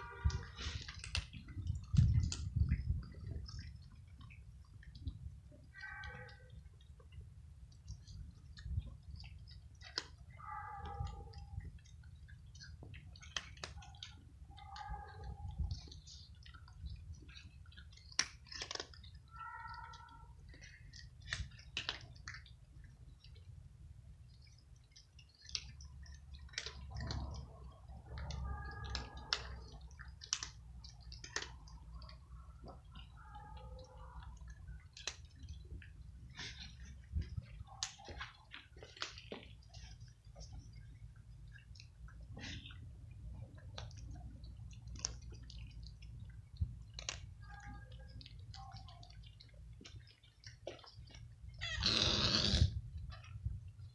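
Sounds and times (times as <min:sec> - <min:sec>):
cats crunching dry kibble: 0:00.0 - 0:53.9.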